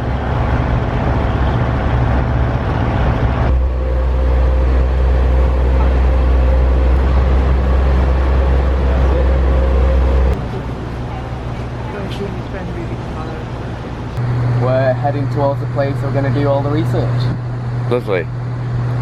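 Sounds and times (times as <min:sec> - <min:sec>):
boat engine droning: 0:00.0 - 0:19.0
faint steady whine: 0:00.0 - 0:19.0.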